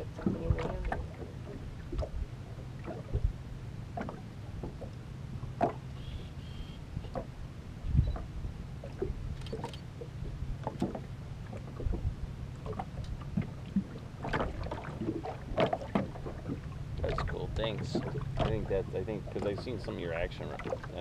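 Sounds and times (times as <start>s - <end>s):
wind buffeting microphone: 0.0s - 3.5s, 4.5s - 21.0s
steady low hum: 0.0s - 21.0s
waves lapping against boat hull: 0.0s - 21.0s.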